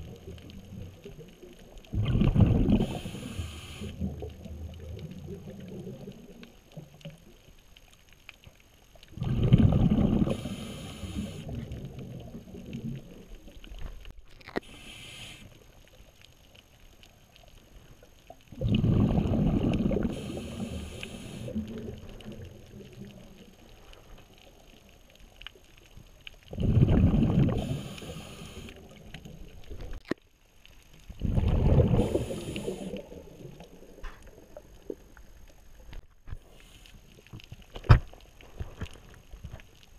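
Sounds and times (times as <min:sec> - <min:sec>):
underwater exhaled bubbles: 0:00.0 - 0:07.6, 0:08.9 - 0:16.2, 0:17.0 - 0:30.2, 0:30.8 - 0:39.7
underwater rumble: 0:00.0 - 0:39.9.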